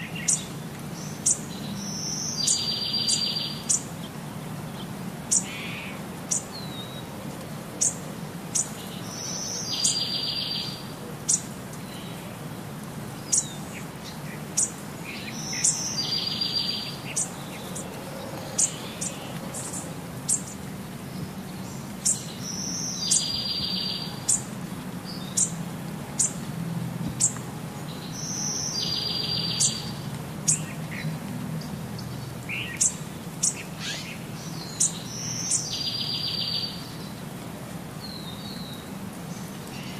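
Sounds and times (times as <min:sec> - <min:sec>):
birds chirping: 0:00.0 - 0:07.1, 0:07.7 - 0:12.4, 0:13.1 - 0:26.5, 0:27.1 - 0:37.3, 0:38.0 - 0:39.9.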